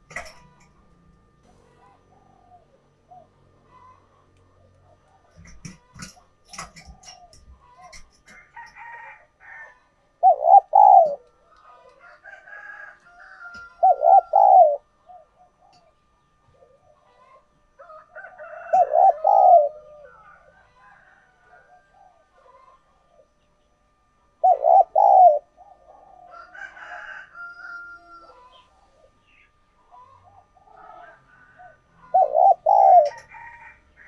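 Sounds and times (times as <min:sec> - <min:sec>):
dove low coos: 0:00.0 - 0:00.8, 0:01.4 - 0:23.4, 0:24.4 - 0:34.0.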